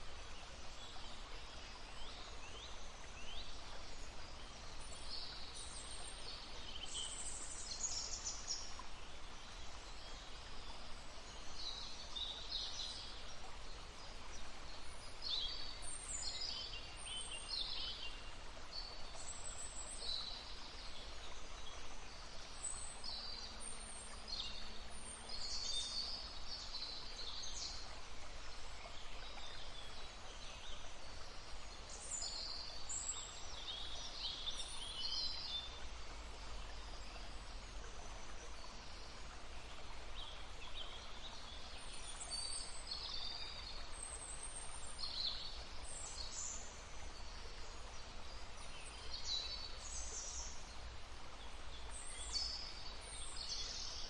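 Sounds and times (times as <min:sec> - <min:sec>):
songbirds singing and calling: 0:00.0 - 0:54.0.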